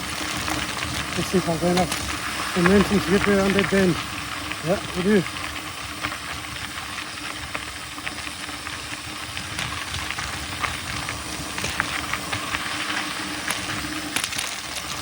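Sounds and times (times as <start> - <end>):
bike clicks and rattles: 0.0 - 15.0
bike tyres on dirt: 0.0 - 15.0
faint steady hum: 0.0 - 15.0.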